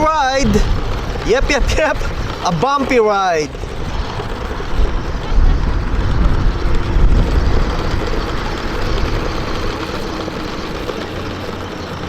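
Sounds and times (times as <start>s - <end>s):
heavy low rumble: 0.0s - 11.0s
toy car electric motor whirring: 0.0s - 12.0s.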